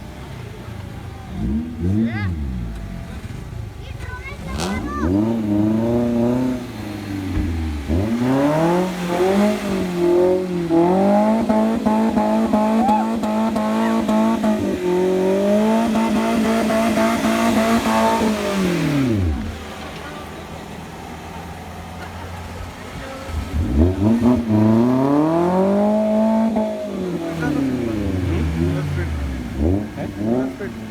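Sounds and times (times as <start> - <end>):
engine revving hard: 1.3 - 3.5, 4.3 - 20.1, 22.8 - 30.9.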